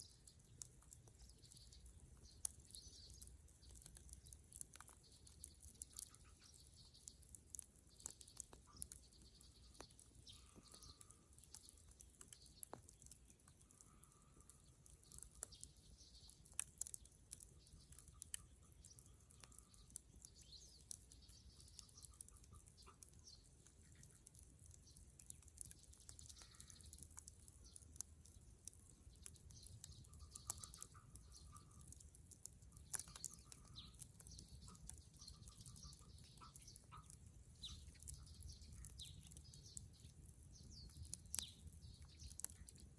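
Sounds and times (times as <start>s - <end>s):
bonfire crackling and popping: 0.0s - 42.9s.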